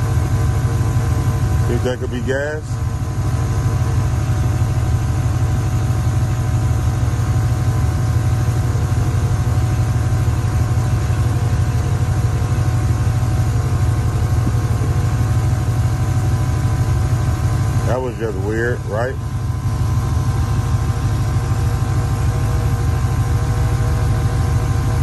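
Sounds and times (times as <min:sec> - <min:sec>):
truck engine rumbling: 0:00.0 - 0:25.0.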